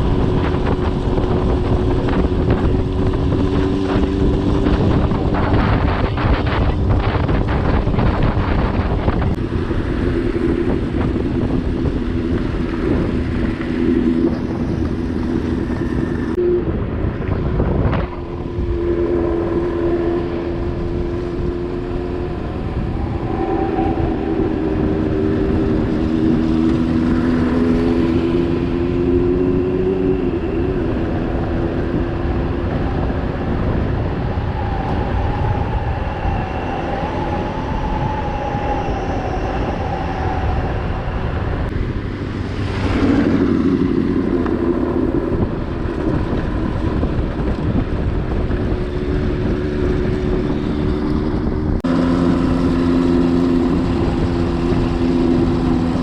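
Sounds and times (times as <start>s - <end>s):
vehicle engine rumbling: 0.0s - 56.0s.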